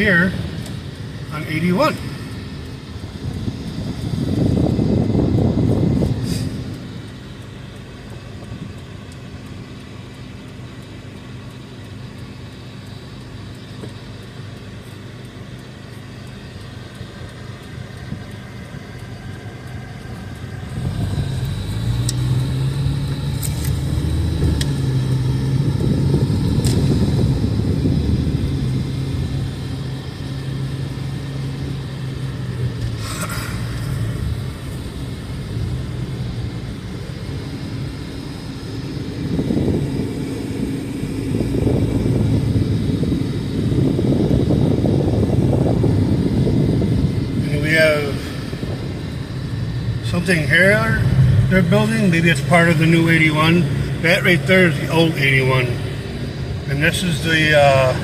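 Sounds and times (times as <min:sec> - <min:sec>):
car engine and road noise: 0:00.0 - 0:58.0
steady engine hum: 0:00.0 - 0:58.0.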